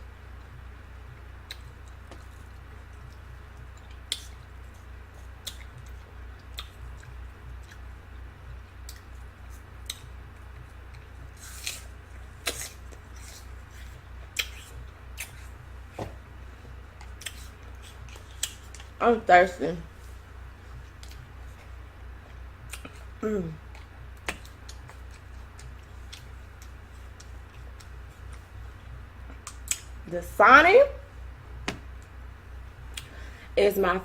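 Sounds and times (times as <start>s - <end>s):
steady low hum: 0.0s - 34.0s
person chewing fruit: 0.4s - 19.0s, 19.9s - 30.0s.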